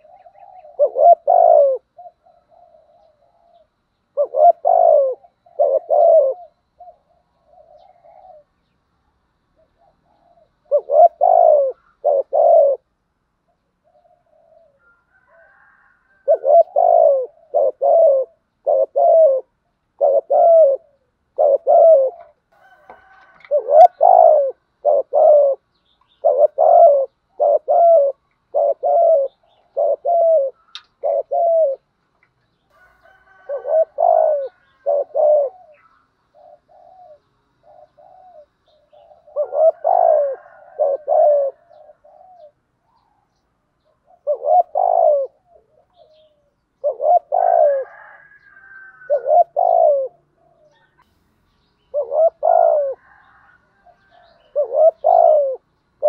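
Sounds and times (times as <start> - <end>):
dove cooing: 0.0 - 32.0, 32.7 - 51.2, 51.8 - 56.0.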